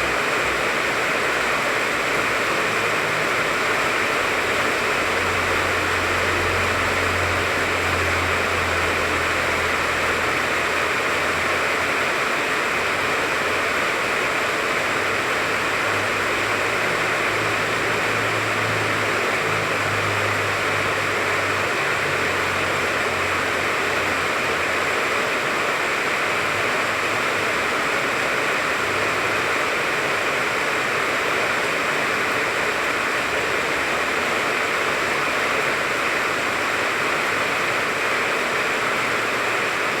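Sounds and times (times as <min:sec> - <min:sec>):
rain falling on a tree: 0:00.0 - 0:40.0.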